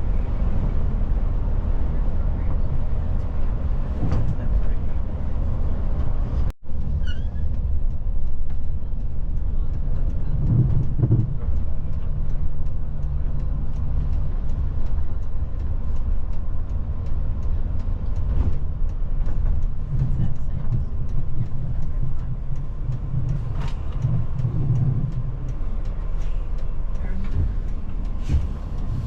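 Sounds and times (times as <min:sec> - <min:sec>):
large vehicle engine rumbling: 0:00.0 - 0:29.0.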